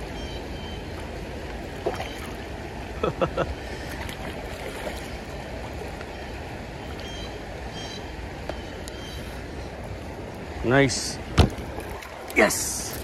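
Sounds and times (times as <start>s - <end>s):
flowing creek water: 0.0s - 13.0s.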